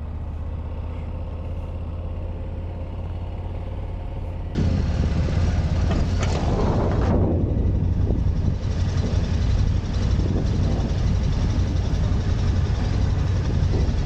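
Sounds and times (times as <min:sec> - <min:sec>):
ferry engine drone: 0:00.0 - 0:14.0.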